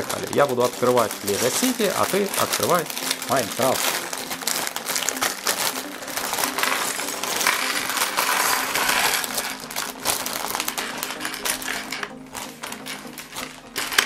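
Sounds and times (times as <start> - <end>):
plastic bags crinkling: 0.0 - 14.0
plastic bricks clattering on table: 0.2 - 14.0.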